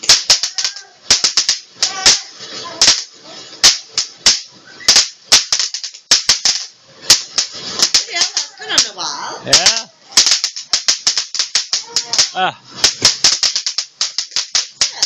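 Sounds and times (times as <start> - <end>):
fireworks cracking and banging: 0.0 - 15.0.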